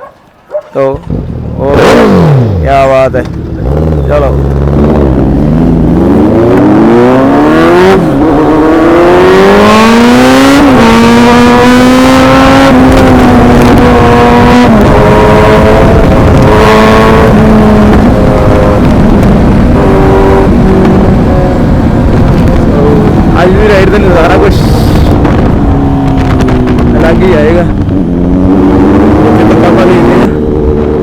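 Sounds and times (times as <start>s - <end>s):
motorcycle engine accelerating: 0.8s - 31.0s.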